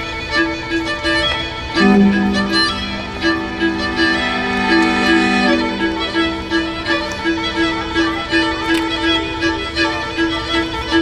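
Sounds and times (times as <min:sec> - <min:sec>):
string quartet playing: 0:00.0 - 0:11.0.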